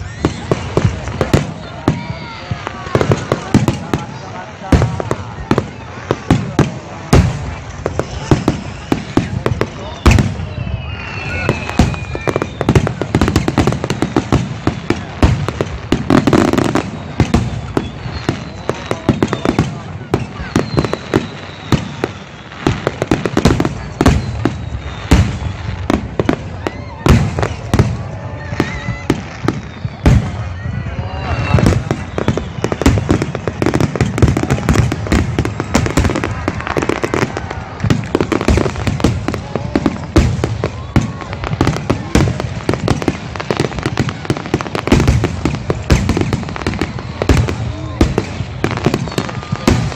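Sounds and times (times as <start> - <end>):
fireworks bangs and pops: 0.0 - 49.9
fireworks crackling burst: 0.0 - 49.9.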